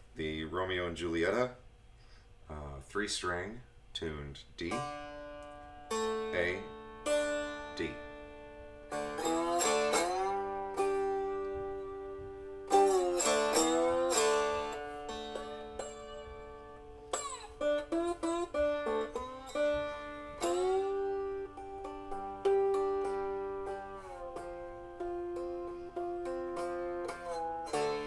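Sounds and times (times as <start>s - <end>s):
cigar box guitar playing: 4.6s - 28.0s.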